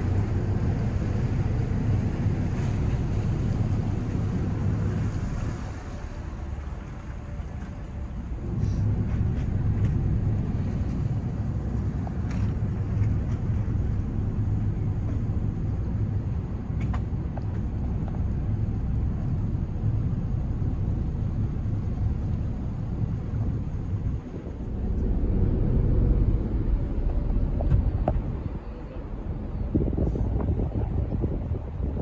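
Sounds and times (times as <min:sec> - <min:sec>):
ferry diesel engines droning: 0:00.0 - 0:32.0.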